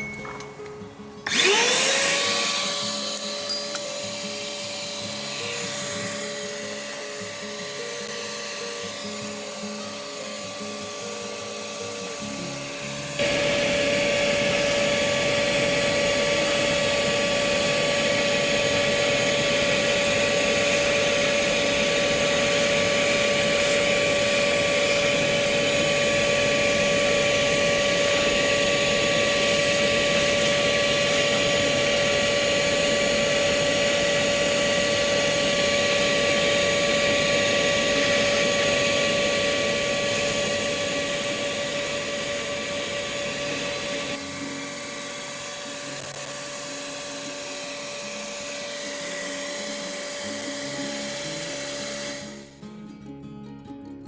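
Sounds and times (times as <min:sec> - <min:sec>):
bee vacuum motor whine: 0:00.0 - 0:52.6.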